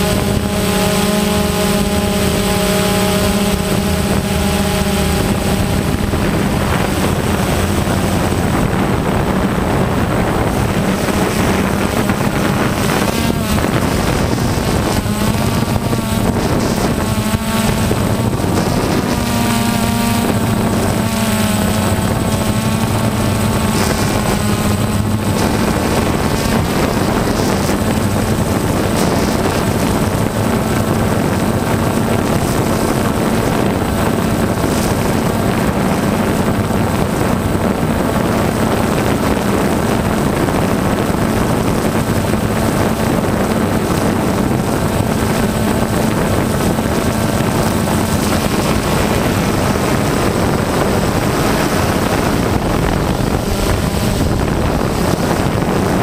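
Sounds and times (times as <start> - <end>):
drone motors buzzing hum: 0.0 - 56.0.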